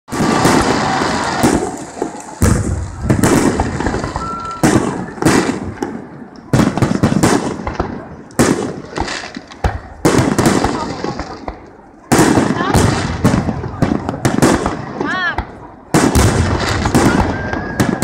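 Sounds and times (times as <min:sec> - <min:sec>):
fireworks bursting: 0:00.1 - 0:18.0.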